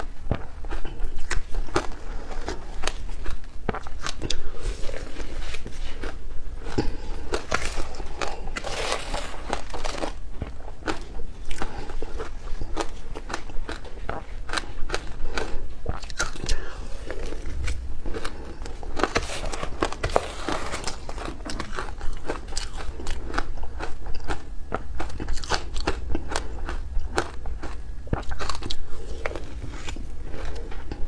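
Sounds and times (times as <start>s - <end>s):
ice being bitten and chewed: 0.0s - 31.0s.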